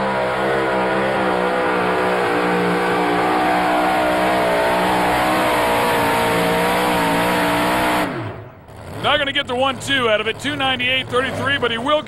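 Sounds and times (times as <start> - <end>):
truck engine running wide open: 0.0 - 12.0.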